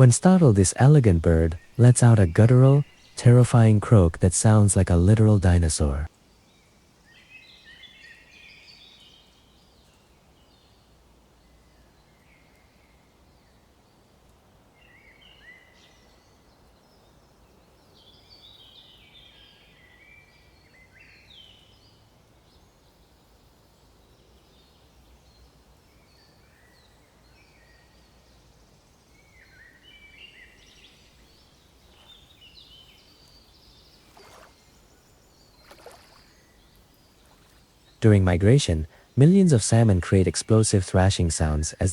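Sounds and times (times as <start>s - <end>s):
small birds chirping: 0.0s - 41.9s
steady low hiss: 0.0s - 41.9s.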